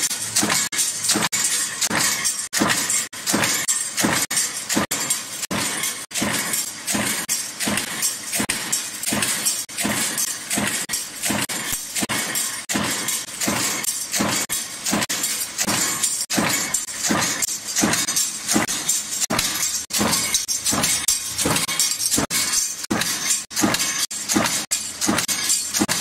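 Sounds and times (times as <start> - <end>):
punch press stamping steel: 0.0 - 26.0.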